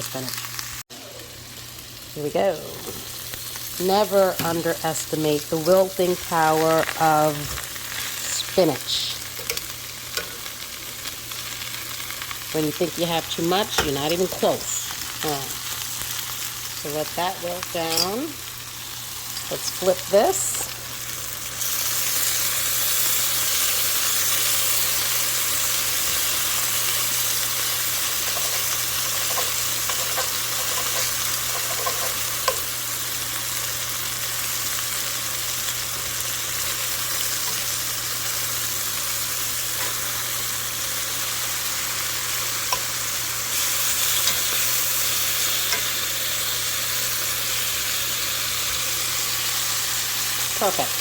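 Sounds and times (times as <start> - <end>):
food sizzling in oil: 0.0 - 51.0.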